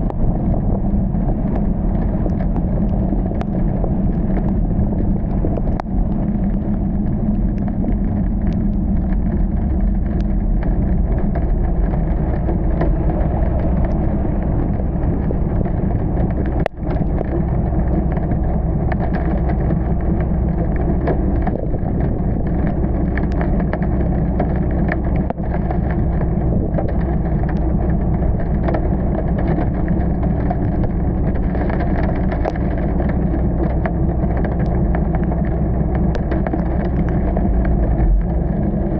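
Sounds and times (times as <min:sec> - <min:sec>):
car driving on wet road: 0:00.0 - 0:38.9
heavy rain: 0:00.0 - 0:38.9
raindrops ticking on car: 0:00.0 - 0:38.9.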